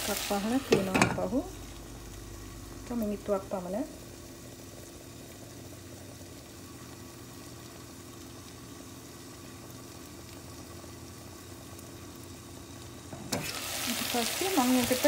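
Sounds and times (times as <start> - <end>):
low steady hum: 0.0 - 15.0
pot simmering hiss: 0.0 - 15.0.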